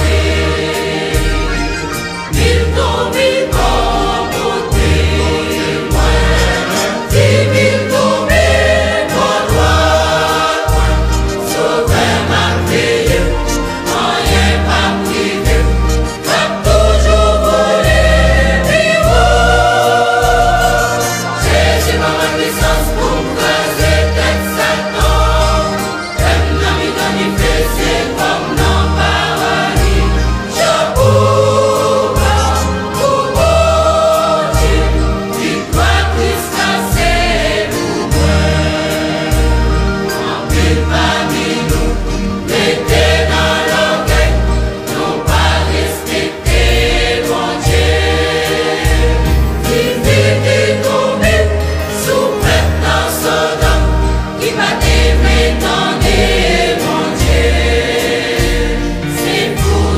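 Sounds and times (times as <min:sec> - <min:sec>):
choir singing gospel song: 0:00.0 - 0:59.9.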